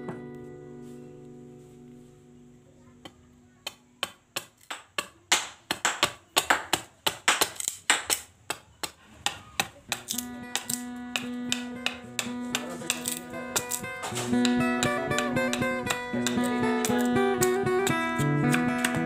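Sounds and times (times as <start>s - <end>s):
knife chopping wood: 3.0s - 19.0s.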